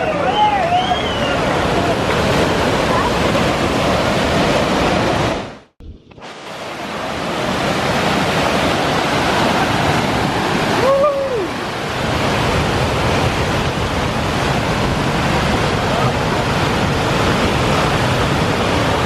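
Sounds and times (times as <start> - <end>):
rapids rushing: 0.0 - 19.0.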